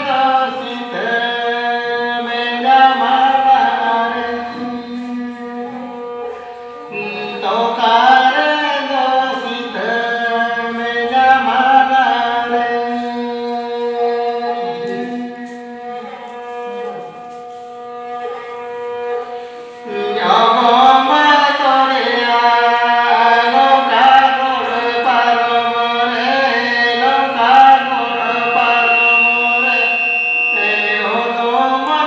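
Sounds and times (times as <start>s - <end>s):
man singing: 0.0s - 17.2s, 19.8s - 32.0s
bowed folk fiddle: 0.0s - 32.0s.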